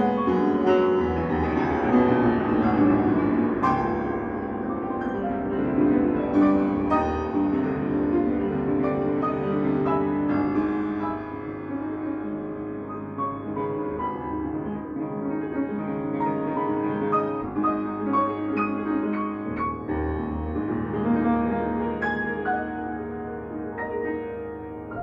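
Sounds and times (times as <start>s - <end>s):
grand piano playing: 0.0s - 25.0s.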